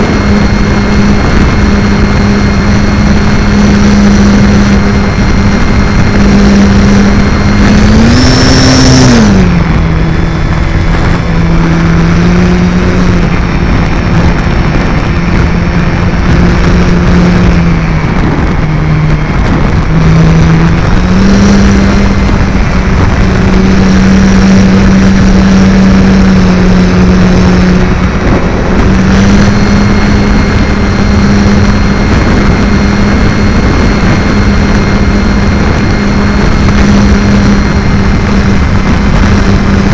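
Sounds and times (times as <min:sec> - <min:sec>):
electric motor and propeller whine: 0:00.0 - 0:39.9
wind rush on microphone: 0:00.0 - 0:39.9.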